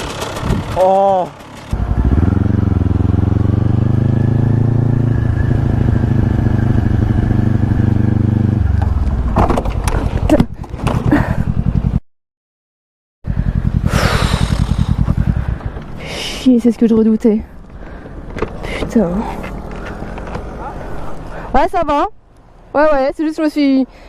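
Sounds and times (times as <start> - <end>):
low pulsing engine: 0.0 - 12.0, 13.2 - 21.6
motorcycle engine running: 0.0 - 12.0, 13.3 - 20.6.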